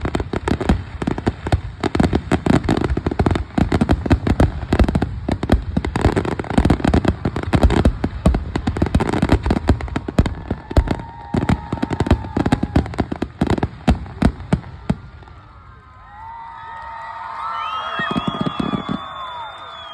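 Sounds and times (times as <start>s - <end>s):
fireworks bangs and crackling: 0.0s - 16.1s, 17.7s - 19.9s.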